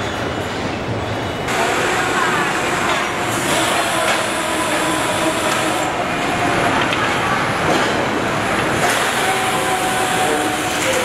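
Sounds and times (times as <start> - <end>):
factory machinery din with clatter: 0.0 - 11.0.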